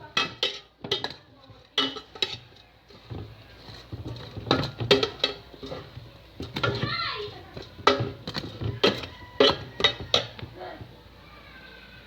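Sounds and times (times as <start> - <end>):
utensil clinking against a pan: 0.0 - 11.0.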